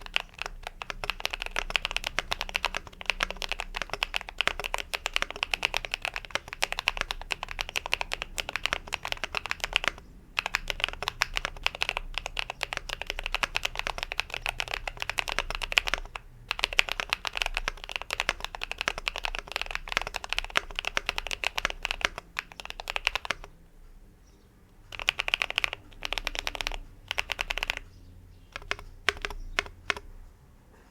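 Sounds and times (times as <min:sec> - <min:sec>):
fast typing on mechanical keyboard: 0:00.0 - 0:23.6, 0:24.9 - 0:27.9, 0:28.5 - 0:30.2.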